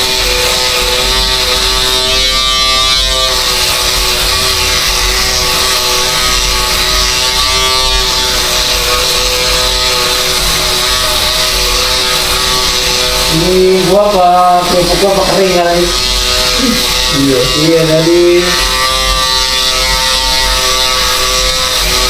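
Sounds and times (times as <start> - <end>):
electric shaver buzzing: 0.0 - 22.0.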